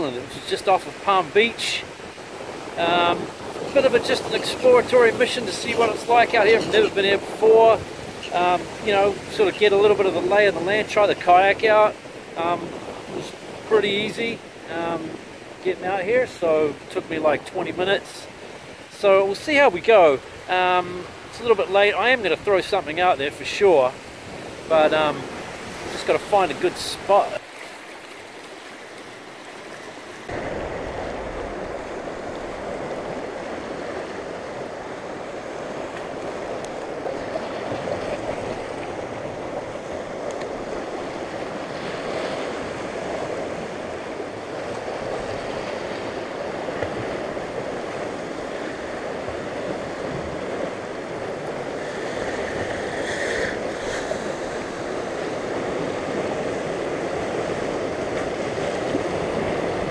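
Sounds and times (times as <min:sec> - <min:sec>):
surf breaking over rocks: 0:00.0 - 0:59.9.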